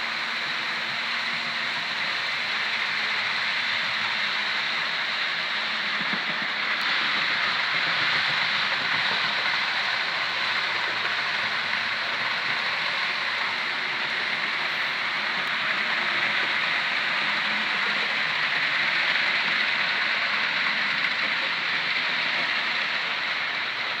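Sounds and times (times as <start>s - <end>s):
wheels rattling on rail joints: 0.0s - 24.0s.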